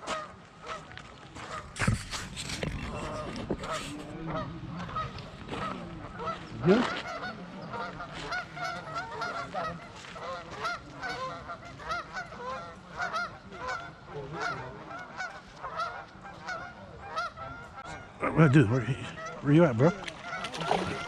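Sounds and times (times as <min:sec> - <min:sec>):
geese honking: 0:00.0 - 0:21.0.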